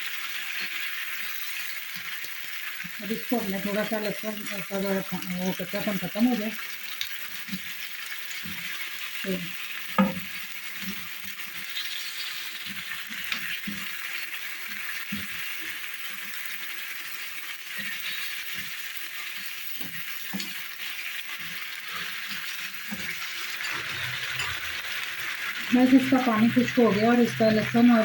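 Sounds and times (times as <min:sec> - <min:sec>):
meat sizzling in a pot: 0:00.0 - 0:28.0.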